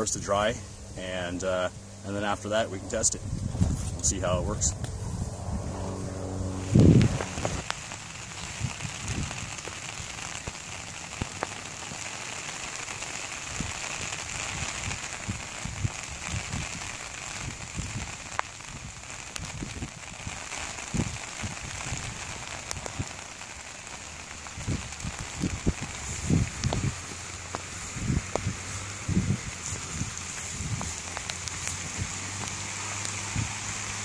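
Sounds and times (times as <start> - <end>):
rain on a tarp: 5.9 - 34.0.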